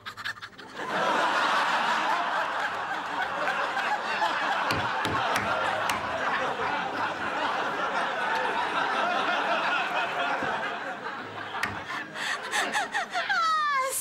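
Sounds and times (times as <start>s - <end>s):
audience laughing: 0.5s - 13.7s.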